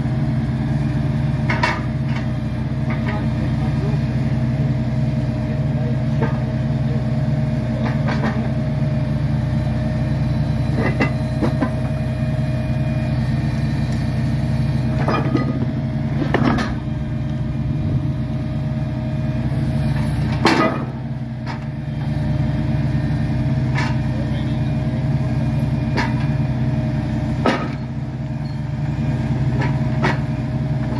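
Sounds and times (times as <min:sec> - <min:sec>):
heavy engine idling: 0:00.0 - 0:30.9.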